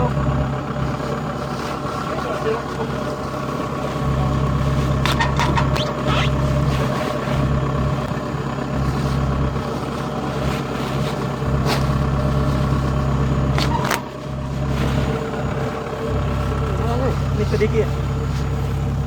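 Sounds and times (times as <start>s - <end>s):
combine harvester engine drone: 0.0s - 19.0s.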